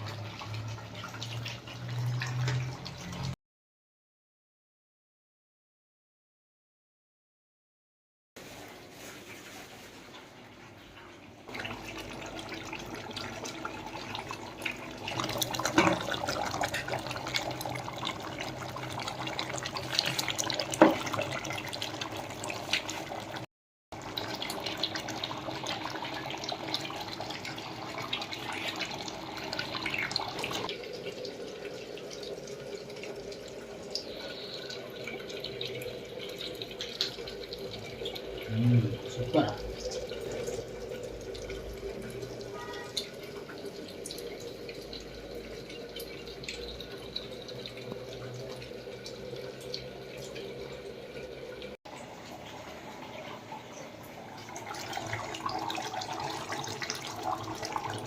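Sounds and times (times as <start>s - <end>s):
water running and splashing: 0.0s - 3.4s, 8.4s - 58.0s.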